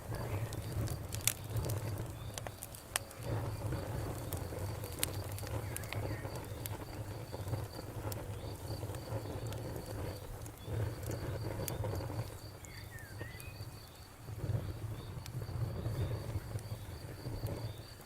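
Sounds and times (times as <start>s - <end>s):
campfire crackling and popping: 0.0s - 18.0s
low rush of flame: 0.0s - 18.0s.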